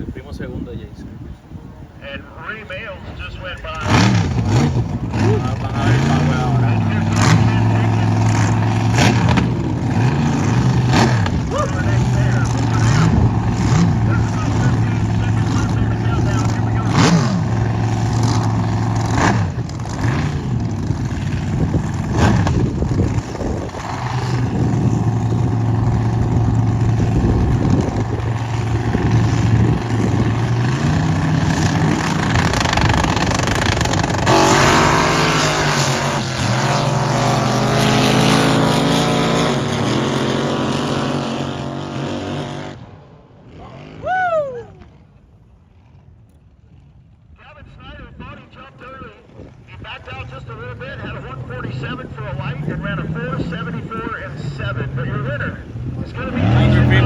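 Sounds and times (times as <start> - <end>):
racing boat engines revving: 1.8 - 44.1, 50.5 - 57.0.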